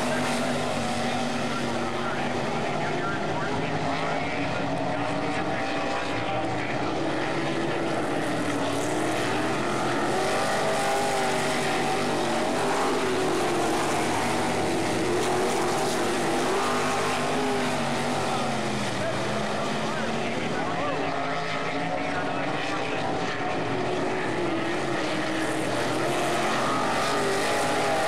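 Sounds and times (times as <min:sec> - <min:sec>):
racing car engine: 0:00.0 - 0:28.0.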